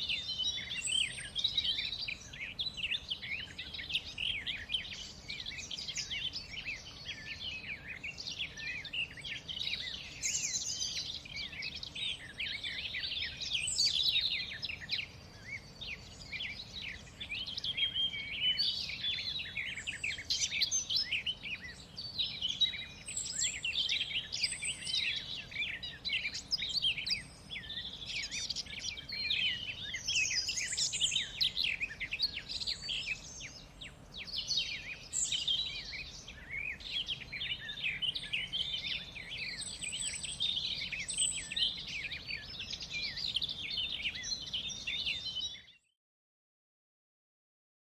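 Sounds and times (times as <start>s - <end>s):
songbirds chirping and trilling: 0.0s - 46.0s.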